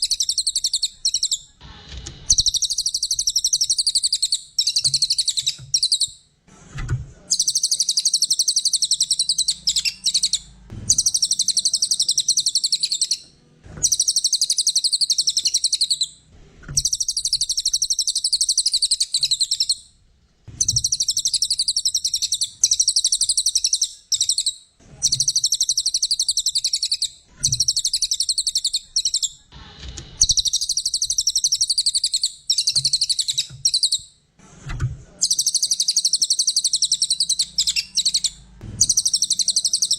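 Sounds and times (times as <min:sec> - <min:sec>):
songbird chattering: 0:00.0 - 0:01.5, 0:02.3 - 0:06.1, 0:07.3 - 0:13.2, 0:13.8 - 0:16.2, 0:16.8 - 0:19.8, 0:20.6 - 0:29.4, 0:30.2 - 0:34.0, 0:35.2 - 0:39.9.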